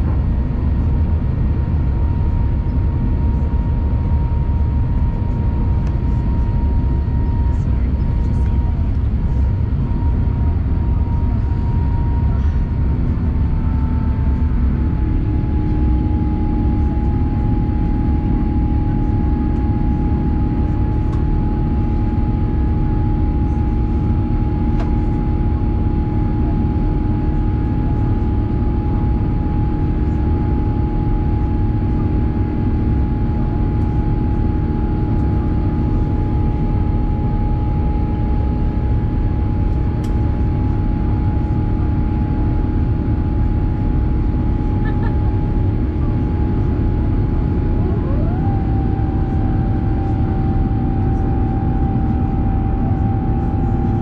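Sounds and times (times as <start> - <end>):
jet engine rumble and whine: 0.0 - 54.0.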